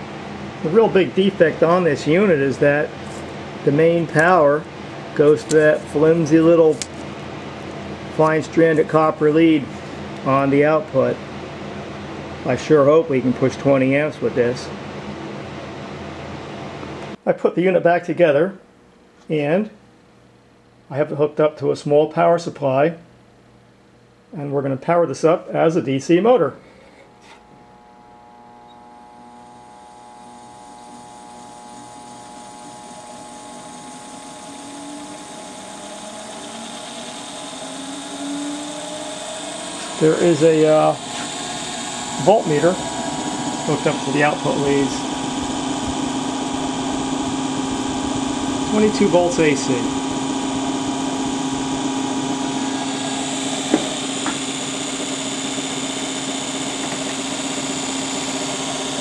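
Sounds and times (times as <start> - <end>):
electric motor hum and whine: 0.0 - 17.2, 26.6 - 59.0.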